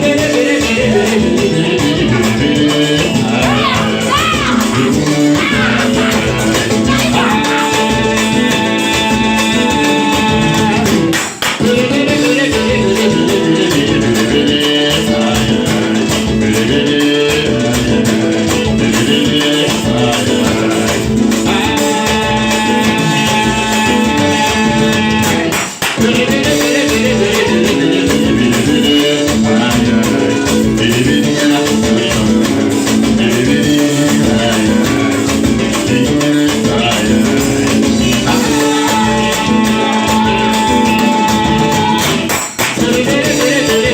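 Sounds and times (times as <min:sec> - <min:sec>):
upbeat latin music with singing: 0:00.0 - 0:43.9.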